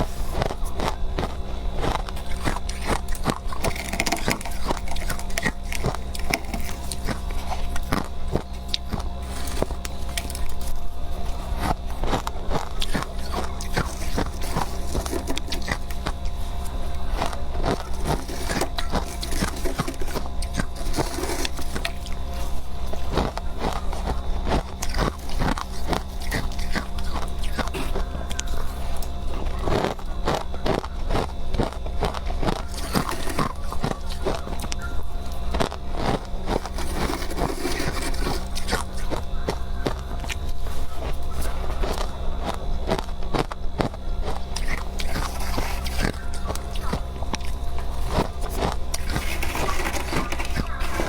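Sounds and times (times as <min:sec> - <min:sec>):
chewing crunchy frost: 0:00.0 - 0:51.0
steady low hum: 0:00.0 - 0:51.0.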